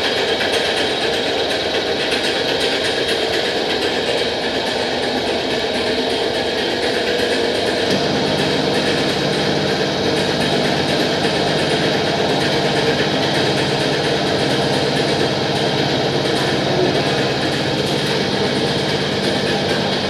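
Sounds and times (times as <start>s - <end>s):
purification machine humming: 0.0s - 20.0s.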